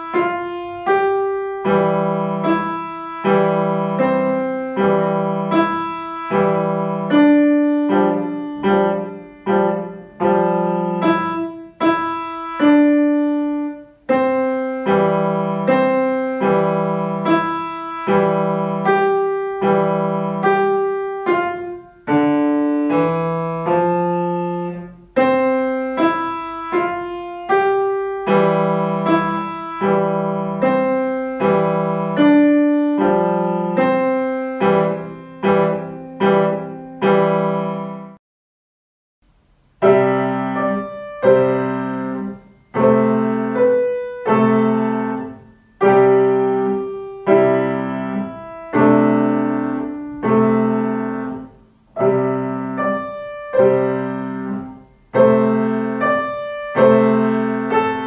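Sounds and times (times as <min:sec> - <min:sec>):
grand piano playing: 0:00.0 - 0:38.2, 0:39.5 - 0:58.0.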